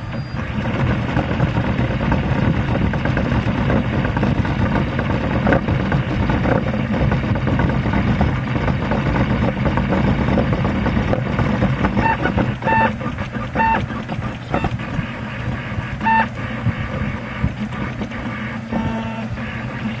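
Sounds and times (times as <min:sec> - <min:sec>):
steady low hum: 0:00.0 - 0:20.0
stepper motors churning and whining: 0:00.0 - 0:20.0.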